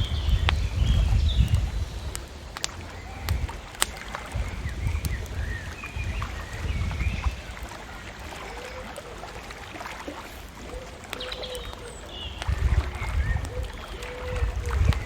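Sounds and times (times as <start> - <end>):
faint clicks: 0.0 - 6.4, 7.5 - 15.0
whistled bird notes: 0.0 - 9.4, 10.6 - 15.0
birds chirping: 0.0 - 15.0
low rumble of water: 0.0 - 15.0
wind: 0.0 - 15.0.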